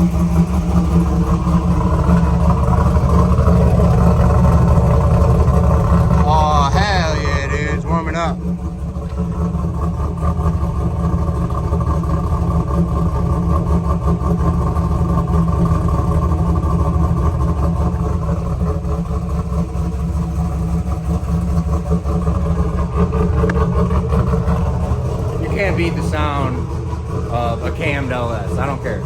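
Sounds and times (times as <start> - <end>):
car engine idling choppily: 0.0 - 29.0.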